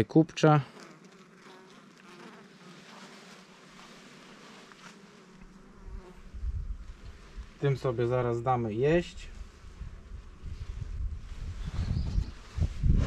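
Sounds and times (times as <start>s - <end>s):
honeybees buzzing: 0.2s - 13.0s.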